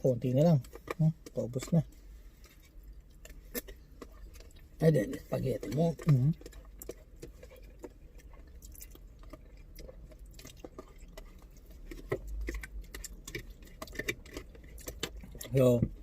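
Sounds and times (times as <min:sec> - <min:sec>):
faint low hum: 0:00.0 - 0:16.0
chewing: 0:00.1 - 0:16.0.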